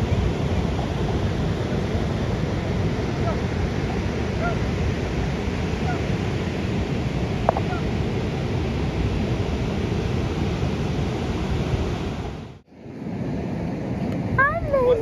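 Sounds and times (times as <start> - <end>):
beach surf: 0.0 - 15.0
wind on microphone: 0.0 - 15.0.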